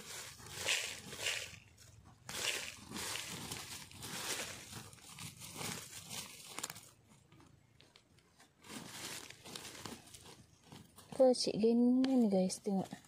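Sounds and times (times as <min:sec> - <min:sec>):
hand digging in dry soil: 0:00.0 - 0:07.2, 0:07.9 - 0:13.0.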